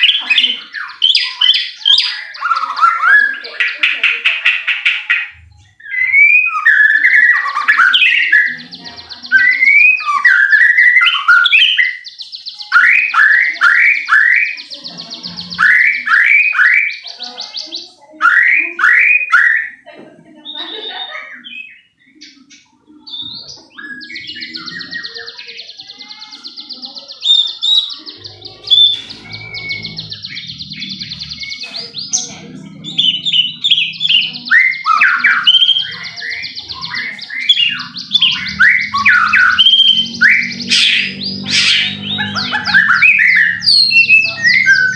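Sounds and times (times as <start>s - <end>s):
bird singing whistled phrases: 5.2s - 19.8s, 23.0s - 44.9s.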